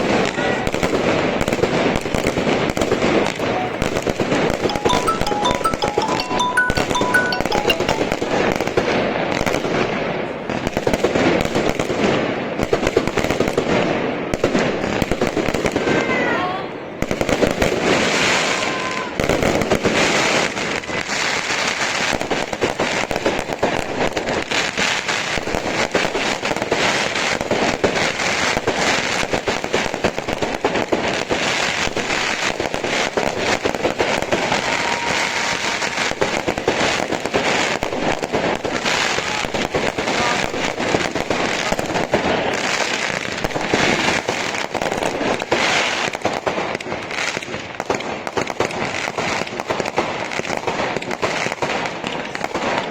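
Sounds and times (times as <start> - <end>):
fireworks crackling: 0.0 - 52.9
fireworks shots and bursts: 0.0 - 52.9.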